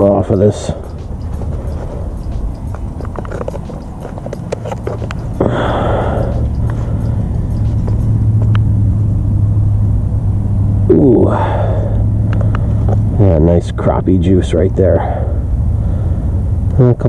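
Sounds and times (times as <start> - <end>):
low rumble: 0.0 - 16.9.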